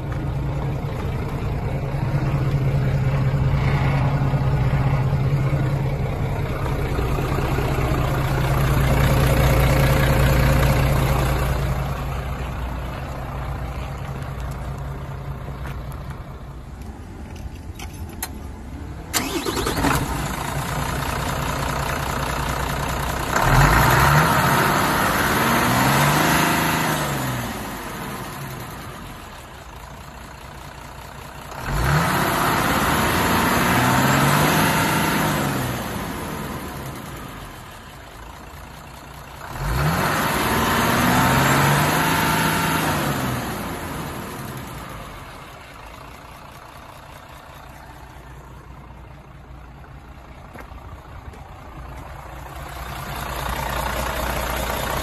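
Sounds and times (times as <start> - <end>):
diesel engine idling and revving: 0.0 - 55.0.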